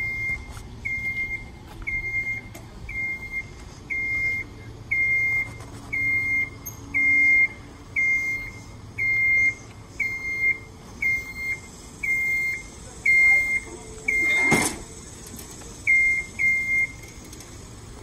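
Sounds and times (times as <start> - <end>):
lift motion alarm beeping: 0.0 - 14.9, 15.8 - 17.1.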